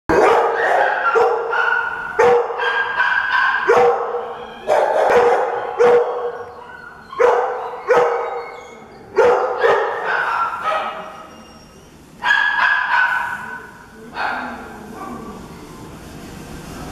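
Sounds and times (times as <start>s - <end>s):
dogs barking with echo: 0.1s - 8.6s, 9.2s - 11.2s, 12.2s - 15.2s.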